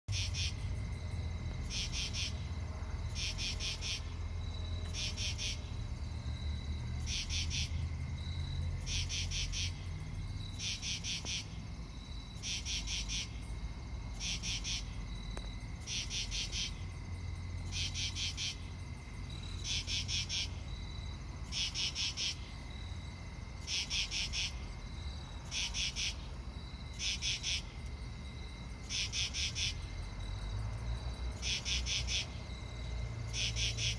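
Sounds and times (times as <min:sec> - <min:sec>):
insect buzzy pulsed call: 0:00.1 - 0:30.0, 0:31.4 - 0:33.9.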